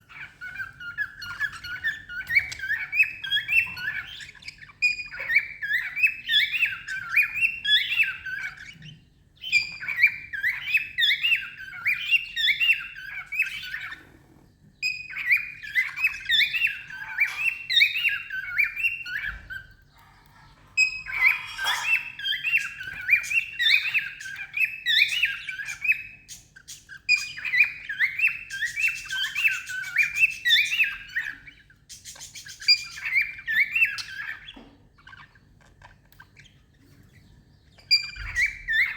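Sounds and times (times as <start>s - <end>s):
cockatiel whistling: 0.1s - 14.1s, 14.8s - 19.8s, 20.8s - 31.6s, 32.2s - 34.6s, 37.8s - 38.9s.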